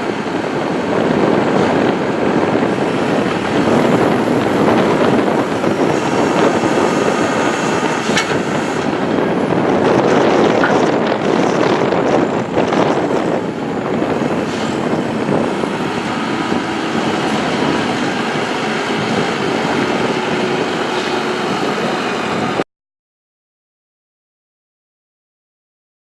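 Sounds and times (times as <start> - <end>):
diesel engine running: 0.0 - 22.6.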